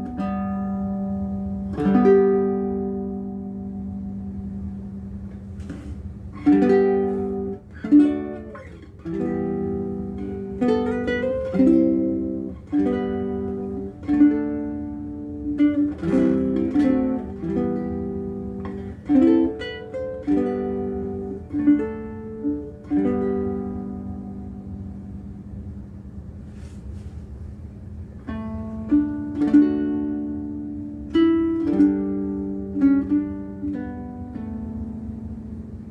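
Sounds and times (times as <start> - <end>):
ukulele chords ringing: 0.0 - 26.0, 28.1 - 35.9.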